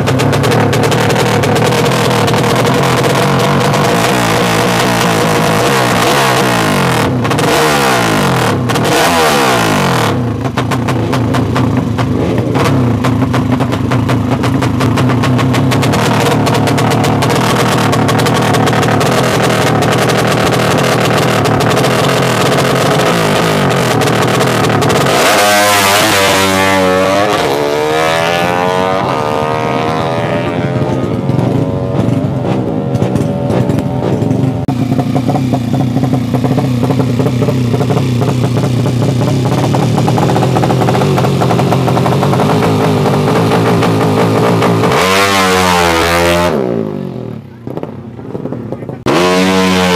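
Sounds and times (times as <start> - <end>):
motorcycle engines running: 0.0 - 49.9
motorcycle revving hard: 0.0 - 49.9.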